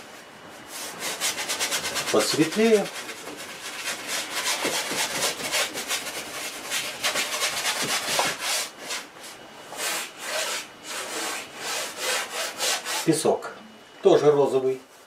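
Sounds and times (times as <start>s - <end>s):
brush scrubbing on canvas: 0.6s - 13.1s.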